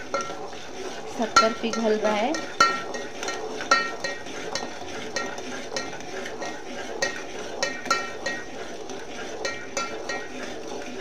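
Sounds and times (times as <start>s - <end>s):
metal spatula scraping pot: 0.0s - 11.0s.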